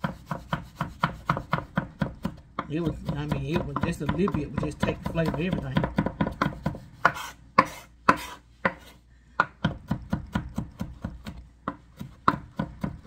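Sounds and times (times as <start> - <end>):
knife chopping on cutting board: 0.0 - 13.0.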